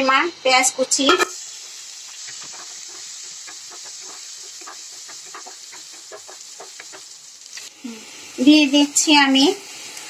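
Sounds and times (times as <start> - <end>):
onion sizzling in oil: 0.0 - 10.0.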